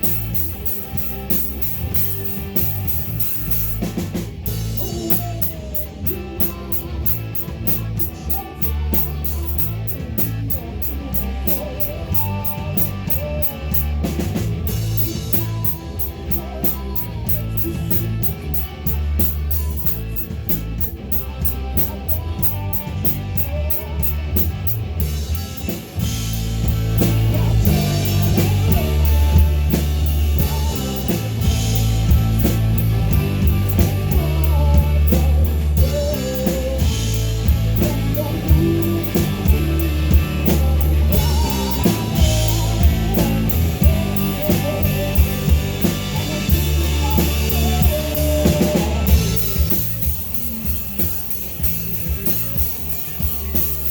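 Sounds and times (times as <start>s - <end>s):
bass guitar: 0.0s - 53.9s
cymbal beat: 0.0s - 53.9s
drum kit: 0.0s - 53.9s
electric guitar: 0.0s - 53.9s.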